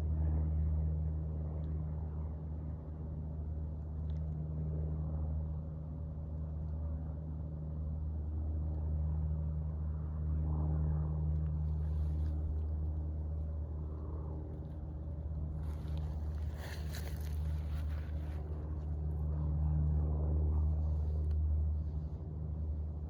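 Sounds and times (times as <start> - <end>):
low engine drone: 0.0 - 23.0.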